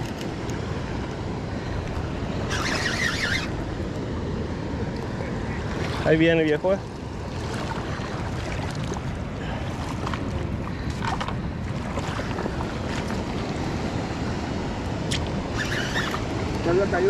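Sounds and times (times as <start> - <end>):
shallow river flowing: 0.0 - 17.0.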